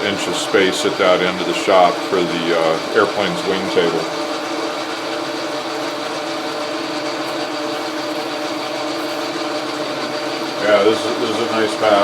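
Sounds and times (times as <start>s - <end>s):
metal lathe running: 0.0s - 12.0s.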